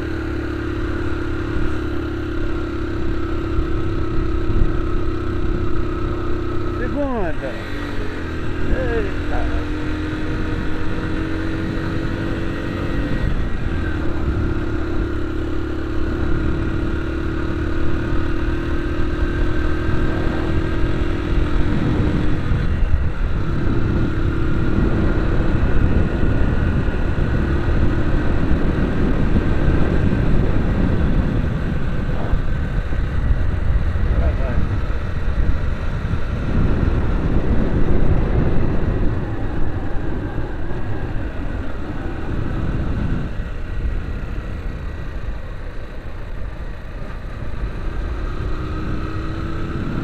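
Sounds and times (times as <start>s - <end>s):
low road and wind rumble: 0.0s - 50.0s
vehicle engine running: 0.0s - 50.0s.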